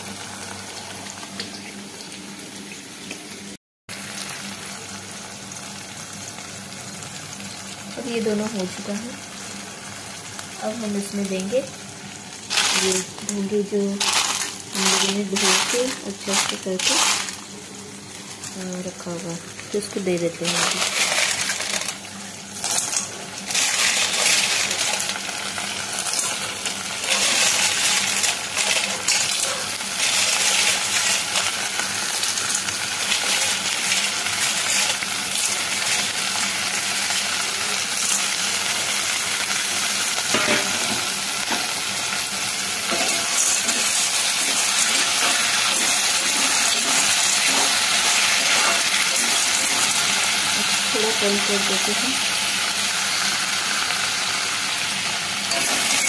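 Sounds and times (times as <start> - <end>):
frying sizzle: 0.0 - 56.0.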